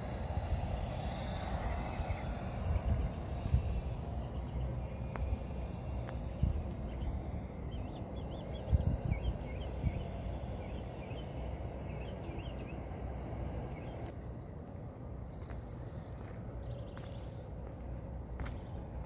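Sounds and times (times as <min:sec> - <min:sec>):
birds chirping: 0:00.0 - 0:14.4, 0:16.0 - 0:19.0
steady low rumble: 0:00.0 - 0:19.0.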